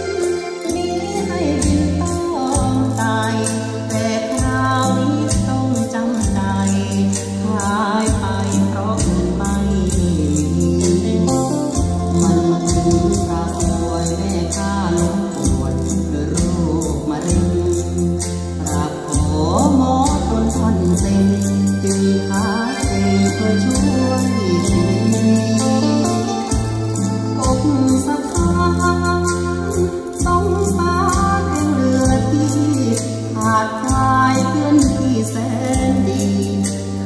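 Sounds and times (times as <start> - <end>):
deep bass notes: 0.0 - 37.0
song with singing over a beat: 0.0 - 37.0.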